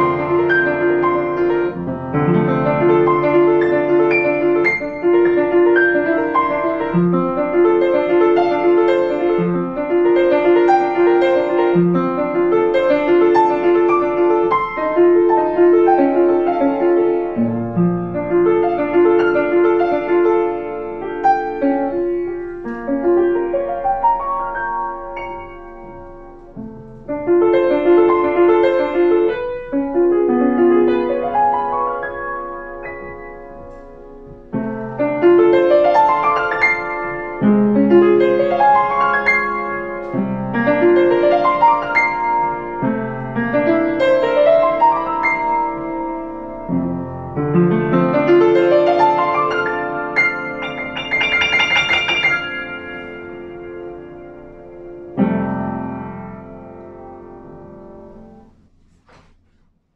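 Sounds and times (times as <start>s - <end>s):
solo piano runs: 0.0s - 59.3s.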